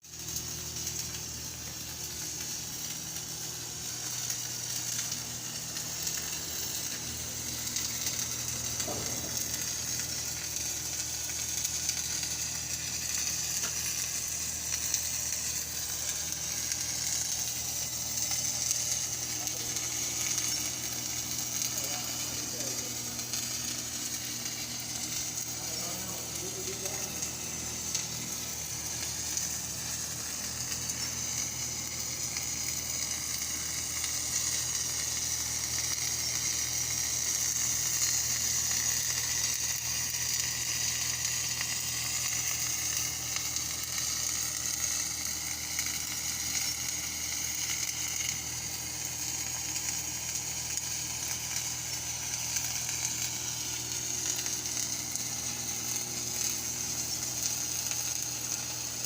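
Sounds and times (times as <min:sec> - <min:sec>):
arc welding crackling sizzle: 0:00.0 - 0:59.0.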